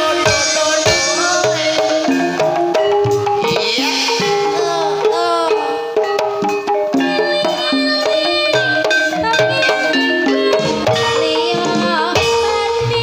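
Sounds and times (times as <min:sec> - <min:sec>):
gamelan music: 0:00.0 - 0:13.0.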